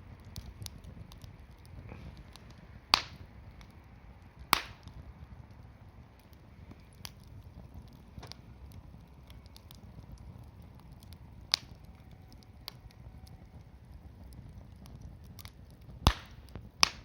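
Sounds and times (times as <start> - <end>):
campfire crackling: 0.0 - 17.0
fire popping: 0.0 - 17.0
low steady rumble: 0.0 - 17.0.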